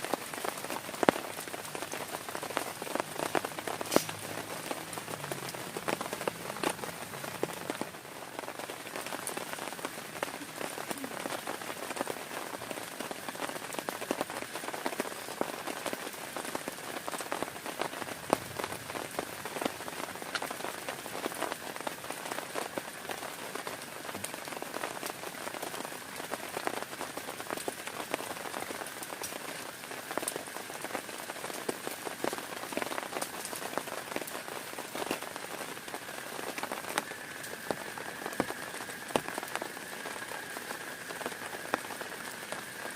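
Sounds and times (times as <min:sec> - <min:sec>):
heavy rain on a tent: 0:00.0 - 0:42.9.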